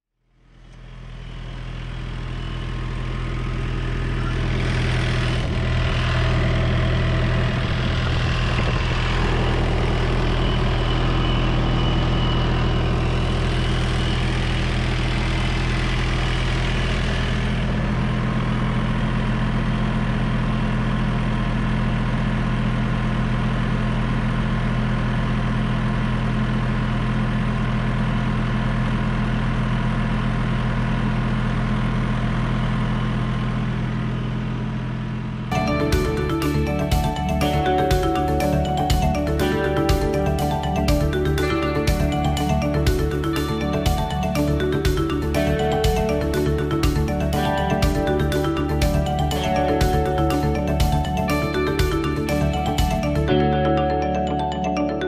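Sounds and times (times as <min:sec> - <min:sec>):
refrigeration unit engine drone: 0:00.3 - 0:55.0.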